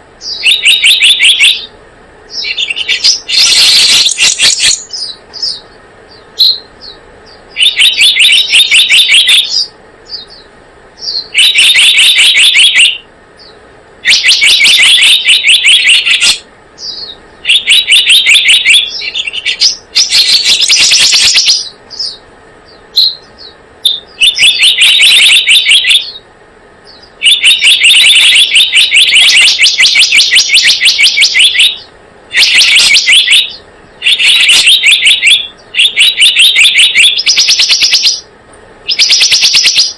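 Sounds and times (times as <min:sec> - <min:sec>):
bird chattering trills: 0:00.2 - 0:39.9.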